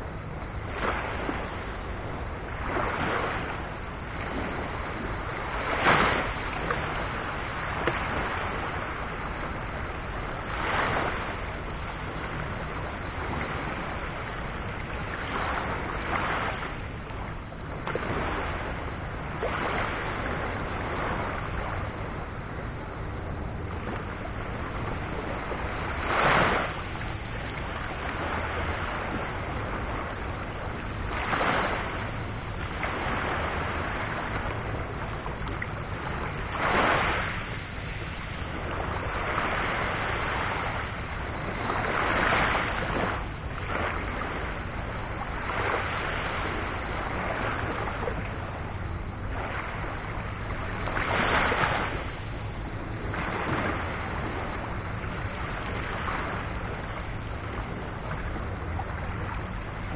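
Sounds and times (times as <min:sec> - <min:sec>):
small waves breaking on shore: 0:00.0 - 0:59.9.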